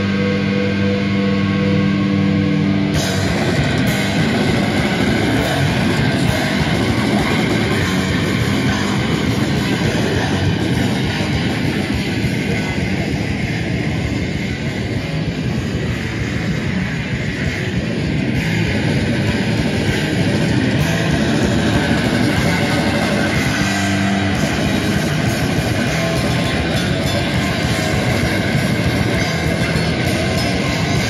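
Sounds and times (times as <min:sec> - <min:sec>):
grindcore band playing: 0:00.0 - 0:31.0
ringing guitar chord: 0:00.0 - 0:31.0.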